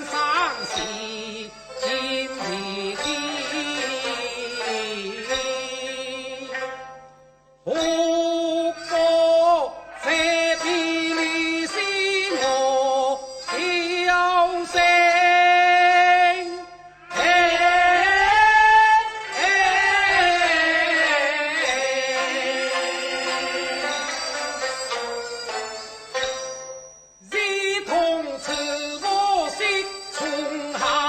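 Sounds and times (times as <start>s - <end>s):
opera singing with music: 0.0s - 6.6s, 7.7s - 25.8s, 27.3s - 31.0s.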